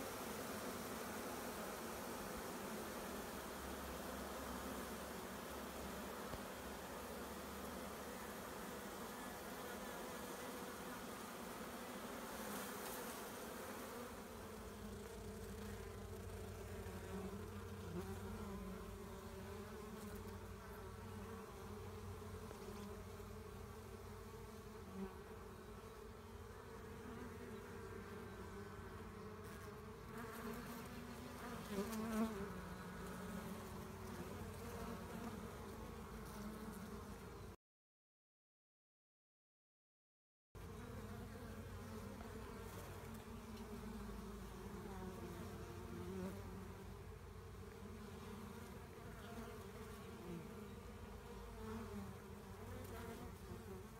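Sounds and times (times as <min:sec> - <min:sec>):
honeybee swarm buzzing: 0:00.0 - 0:37.6, 0:40.6 - 0:53.9.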